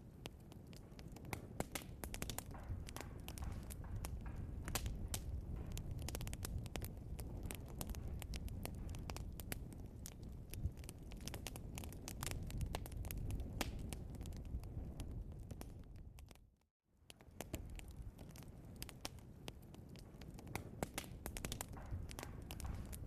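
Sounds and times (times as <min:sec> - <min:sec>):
fire crackling and popping: 0:00.0 - 0:23.0
low rumble of fire: 0:00.0 - 0:23.0.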